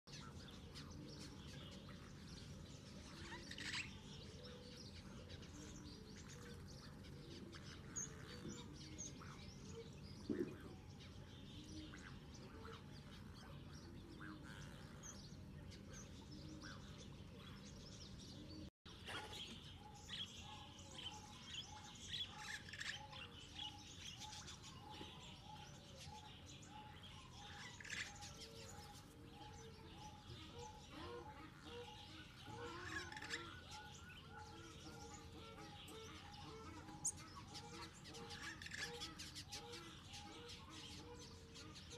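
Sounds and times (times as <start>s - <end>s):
birds chirping and calling: 0.1s - 41.9s.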